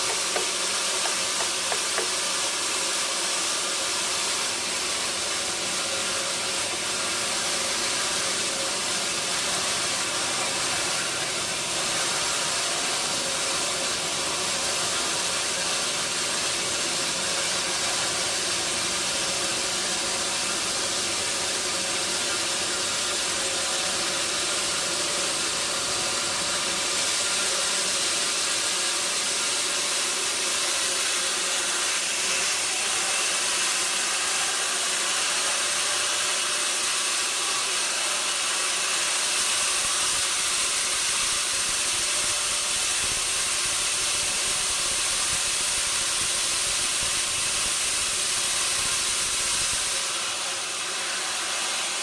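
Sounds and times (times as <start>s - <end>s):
sawmill machinery hissing: 0.0s - 52.0s.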